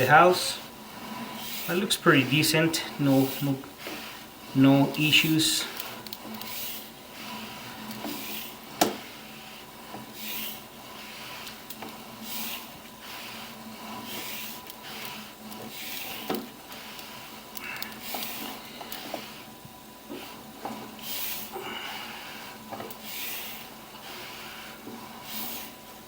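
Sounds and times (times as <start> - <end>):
cable rubbing and scraping: 0.0 - 19.5, 20.1 - 21.6
faint electrical hum: 0.0 - 26.0.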